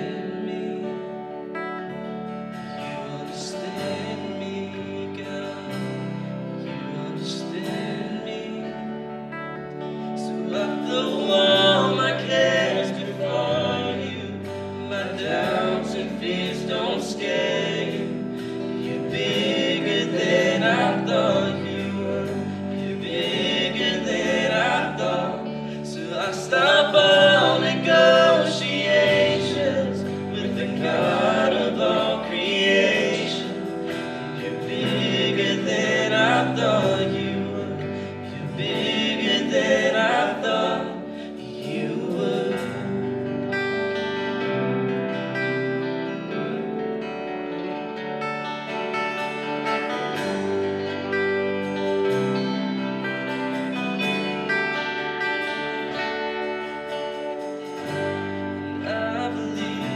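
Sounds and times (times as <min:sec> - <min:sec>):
voices singing together: 0:00.0 - 0:59.9
worship band playing: 0:00.0 - 0:59.9.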